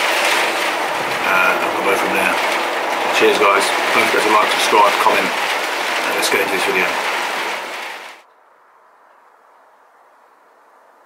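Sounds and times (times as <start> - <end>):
steady rushing hiss: 0.0 - 11.0.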